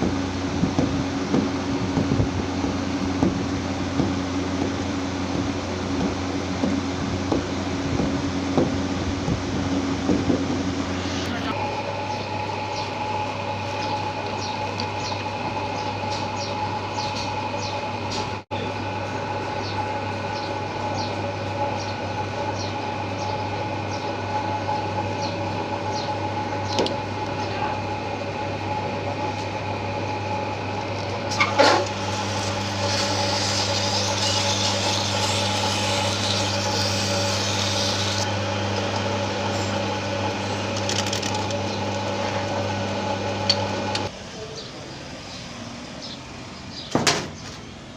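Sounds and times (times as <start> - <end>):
machine humming: 0.0 - 44.4.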